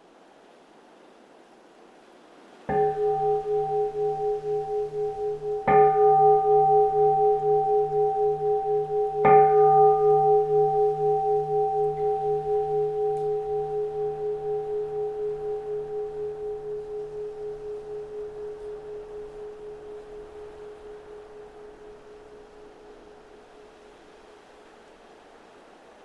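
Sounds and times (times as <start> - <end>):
bowl-shaped bell ringing: 2.7 - 24.2.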